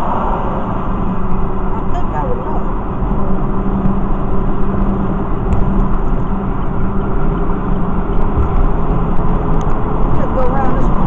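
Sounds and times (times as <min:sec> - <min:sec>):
car cabin road noise: 0:00.0 - 0:11.0
low steady hum: 0:00.0 - 0:11.0.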